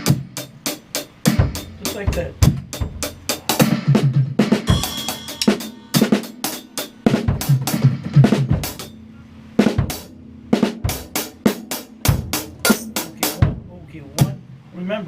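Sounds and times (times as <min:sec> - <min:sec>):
drum kit groove: 0:00.0 - 0:14.6.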